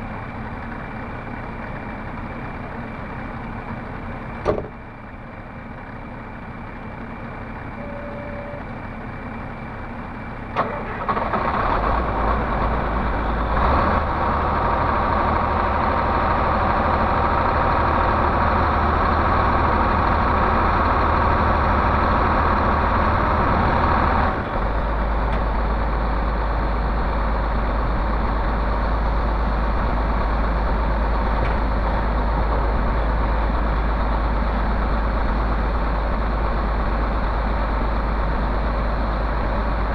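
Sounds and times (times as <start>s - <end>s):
diesel engine starting and idling: 0.0s - 39.9s.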